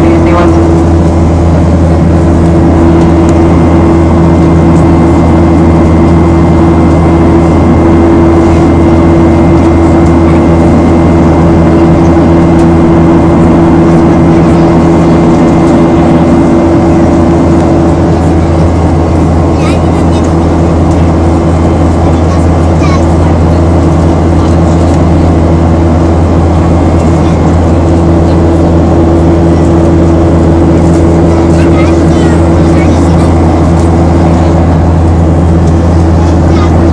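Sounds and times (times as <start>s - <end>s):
airplane cabin engine drone: 0.0s - 36.9s.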